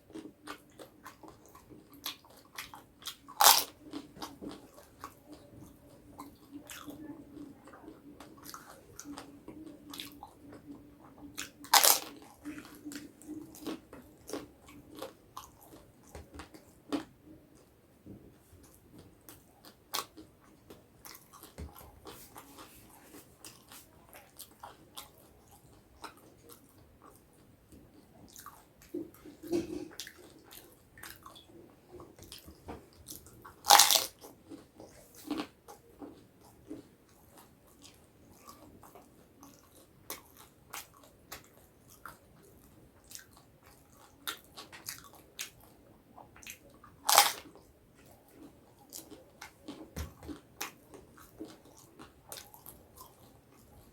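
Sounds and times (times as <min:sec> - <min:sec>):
chewing crisp snacks: 0:00.0 - 0:17.7, 0:18.4 - 0:53.9.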